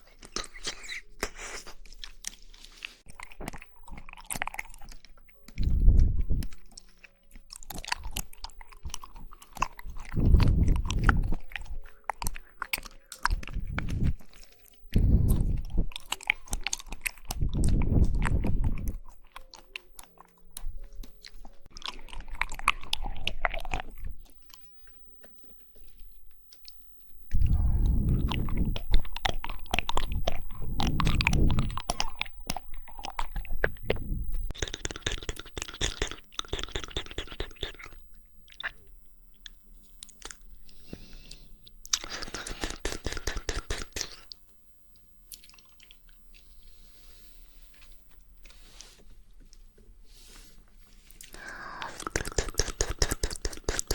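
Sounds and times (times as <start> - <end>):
mouth clicks and smacks: 0.0 - 2.5, 3.1 - 44.5, 51.2 - 53.9
wet chewing mouth sounds: 0.0 - 44.4, 45.3 - 49.1, 50.2 - 53.9.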